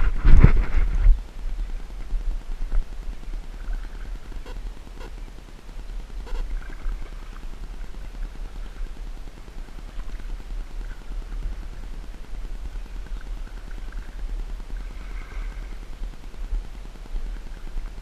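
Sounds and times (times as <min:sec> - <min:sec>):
muffled low rumble of paddling: 0:00.0 - 0:18.0.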